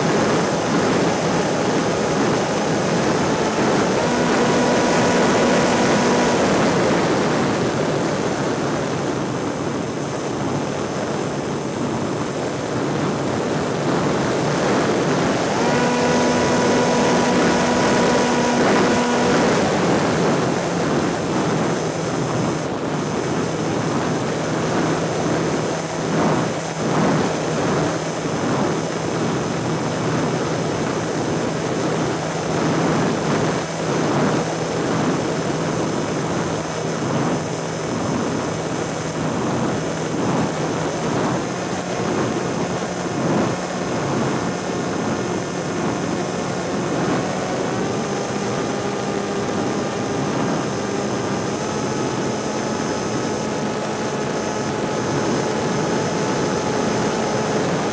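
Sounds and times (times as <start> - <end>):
propeller engine hum: 0.0 - 57.9
wind rushing over microphone: 0.0 - 57.9.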